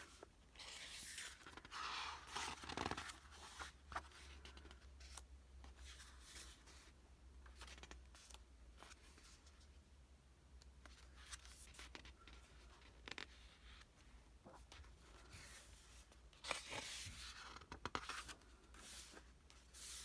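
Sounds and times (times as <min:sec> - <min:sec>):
book pages rustling: 0:00.0 - 0:09.6, 0:10.8 - 0:20.0.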